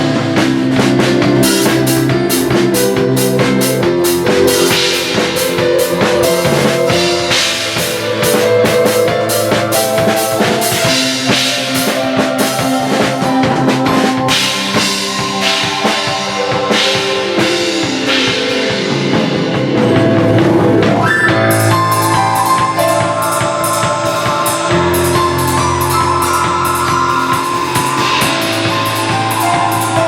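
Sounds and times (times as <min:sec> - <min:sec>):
drum kit with cymbals: 0:00.0 - 0:30.0
sustained keyboard chords: 0:00.0 - 0:30.0.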